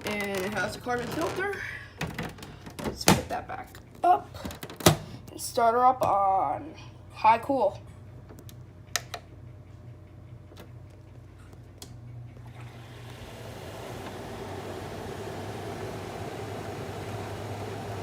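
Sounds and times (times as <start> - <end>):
air conditioner fan rushing: 0.0 - 18.0.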